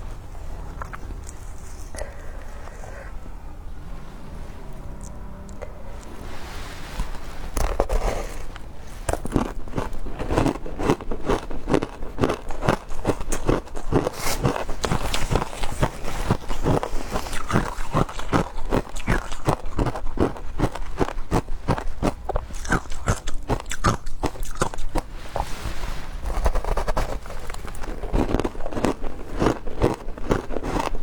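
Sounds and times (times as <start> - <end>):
ice being chewed crunching: 0.7 - 3.2, 5.0 - 31.0.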